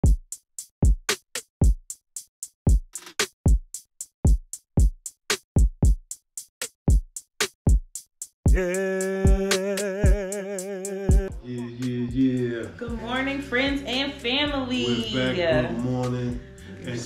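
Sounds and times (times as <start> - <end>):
drum machine beat: 0.0 - 2.0, 2.6 - 17.0.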